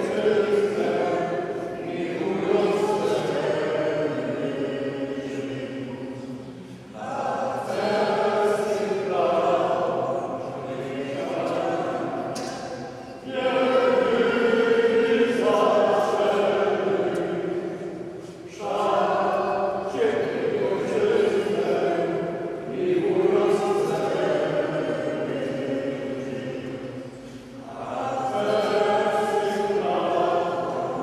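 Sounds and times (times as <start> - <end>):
congregation singing: 0.0 - 31.0.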